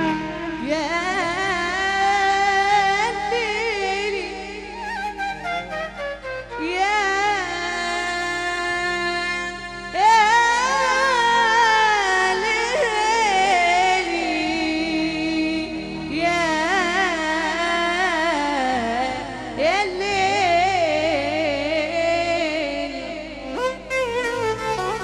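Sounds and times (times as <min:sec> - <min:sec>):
slow ornamented vocal melody: 0:00.0 - 0:25.0.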